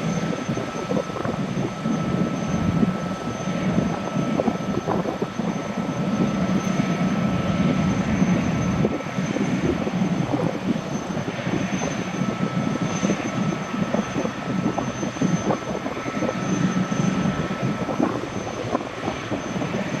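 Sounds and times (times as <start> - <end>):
gas turbine engine whine: 0.0 - 20.0.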